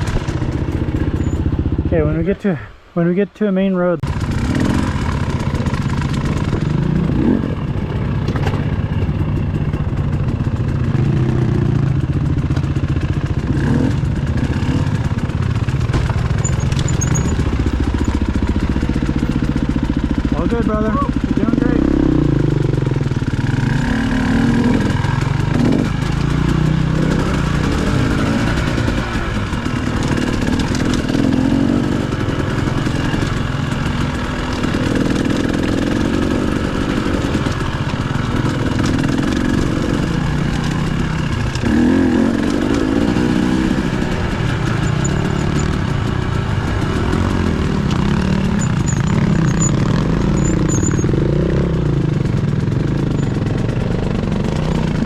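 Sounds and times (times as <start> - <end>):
dirt bike engine revving: 4.0 - 55.0.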